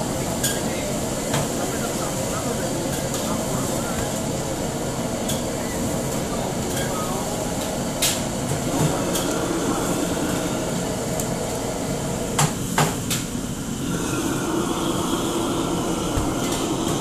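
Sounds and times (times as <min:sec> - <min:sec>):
gas wok burner flaming: 0:00.0 - 0:17.0.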